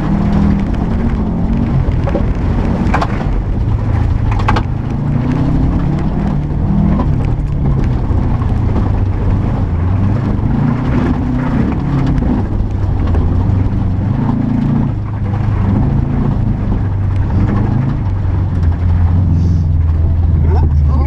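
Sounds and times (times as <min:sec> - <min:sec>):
car engine revving: 0:00.0 - 0:21.0
tyre and dirt noise: 0:00.0 - 0:21.0.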